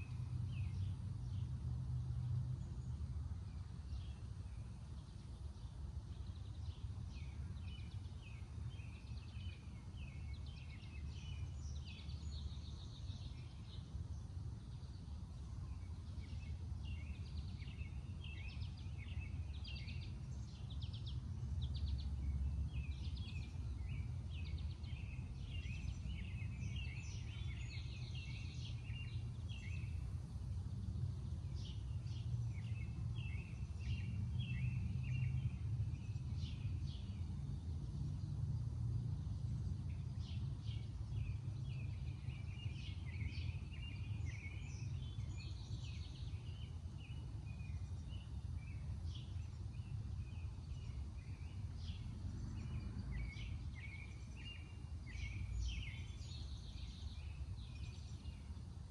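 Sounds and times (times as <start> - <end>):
songbirds chirping: 0.0 - 58.9.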